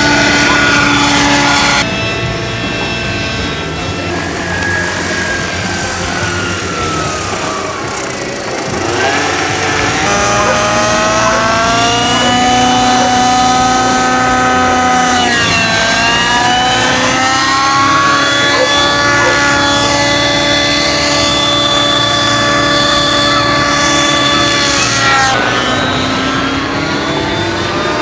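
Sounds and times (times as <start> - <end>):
model helicopter engine whining: 0.0 - 28.0.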